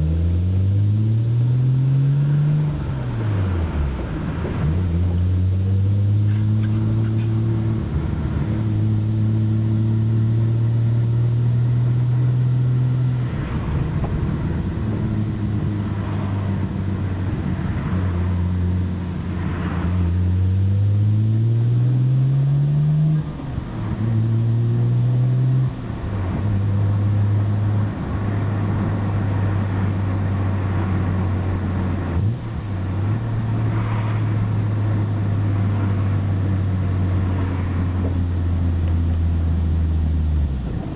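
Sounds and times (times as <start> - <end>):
car engine driving: 0.0 - 40.9.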